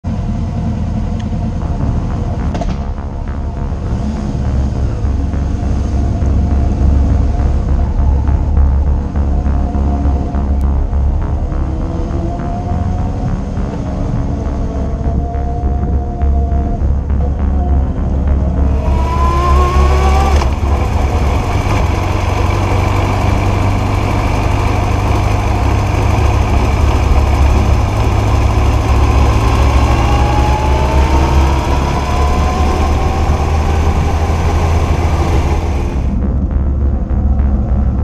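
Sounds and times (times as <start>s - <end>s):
motorcycle engine accelerating: 0.0s - 38.0s
road and wind noise: 0.0s - 38.0s.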